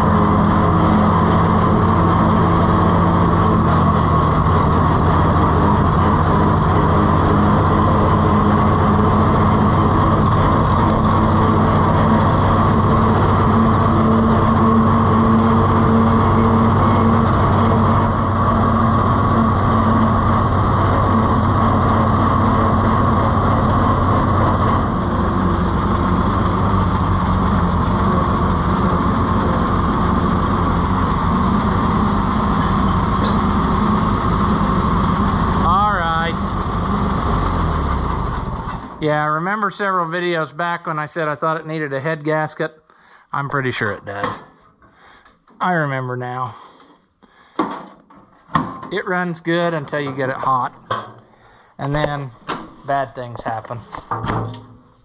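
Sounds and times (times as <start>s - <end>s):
tractor engine running: 0.0s - 42.1s, 43.4s - 55.0s.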